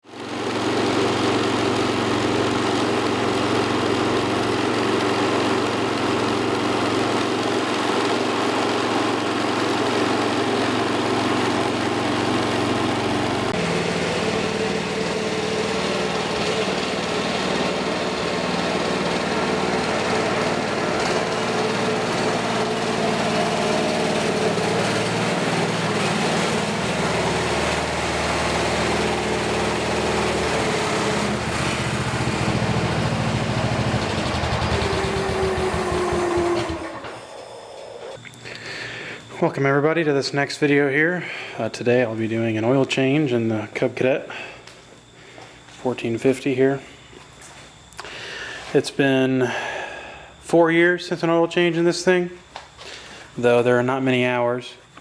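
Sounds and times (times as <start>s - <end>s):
garden tractor engine running: 0.1s - 55.0s.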